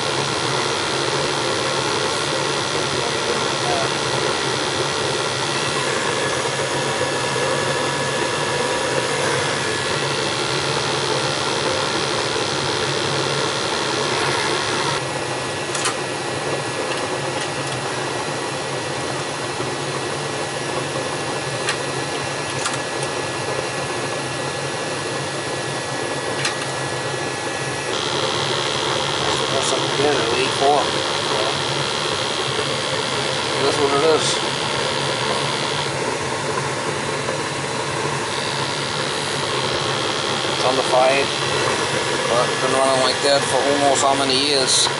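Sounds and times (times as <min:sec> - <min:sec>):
gas furnace running: 0:00.0 - 0:44.9.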